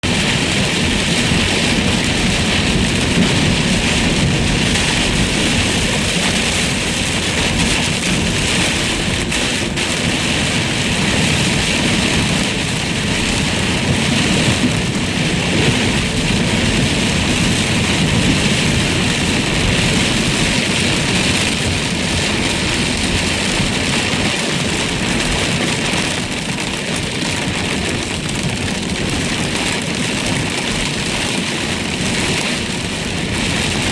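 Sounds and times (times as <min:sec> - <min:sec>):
car road noise: 0:00.0 - 0:33.9
heavy rain pelting a car: 0:00.0 - 0:33.9.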